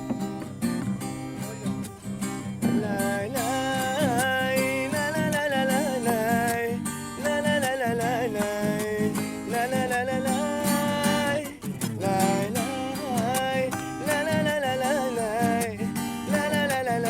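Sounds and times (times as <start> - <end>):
guitar accompaniment: 0.0 - 17.0.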